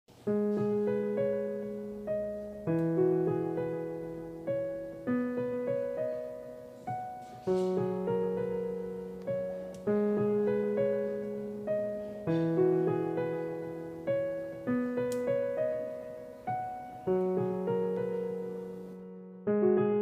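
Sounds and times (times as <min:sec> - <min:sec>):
slow gentle piano melody: 0:00.1 - 0:20.0.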